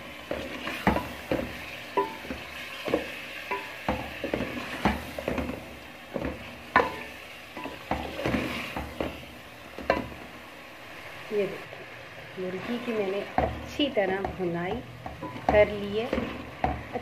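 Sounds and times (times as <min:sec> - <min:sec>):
steady sizzle: 0:00.0 - 0:17.0.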